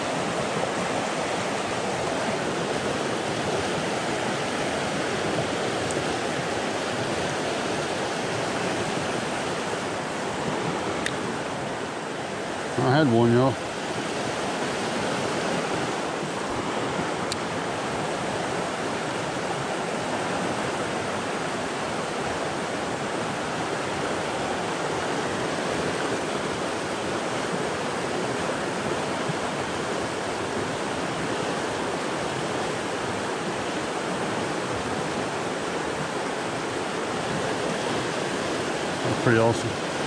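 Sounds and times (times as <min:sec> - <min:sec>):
stream pouring over rocks: 0:00.0 - 0:40.0.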